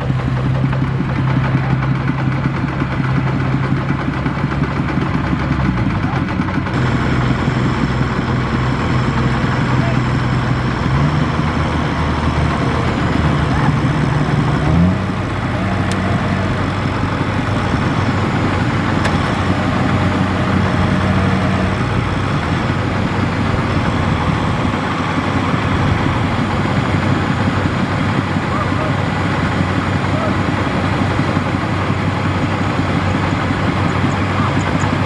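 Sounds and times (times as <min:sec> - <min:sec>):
diesel engines running: 0:00.0 - 0:35.0.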